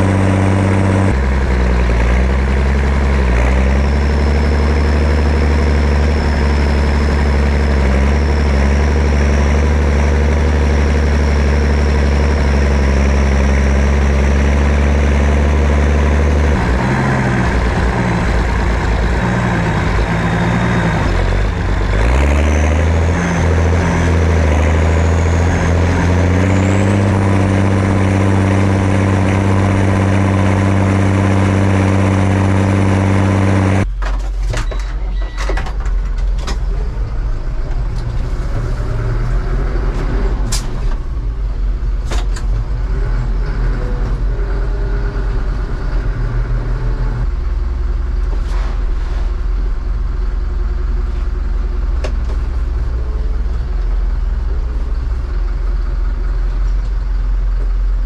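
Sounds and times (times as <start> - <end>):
tractor diesel idling: 0.0 - 22.1, 23.6 - 48.4, 49.3 - 58.0
diesel tractor engine running: 0.0 - 58.0.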